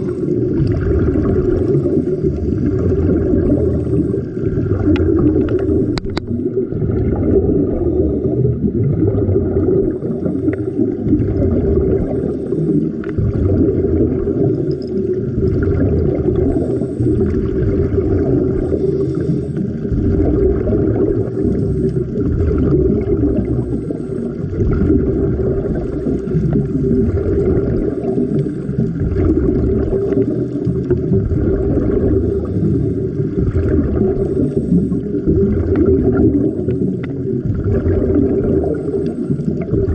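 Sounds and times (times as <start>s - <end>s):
underwater low rumble: 0.0s - 39.9s.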